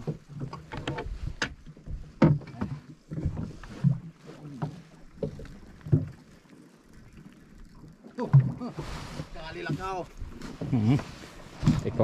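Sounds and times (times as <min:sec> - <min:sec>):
waves slapping against boat hull: 0:00.0 - 0:12.0.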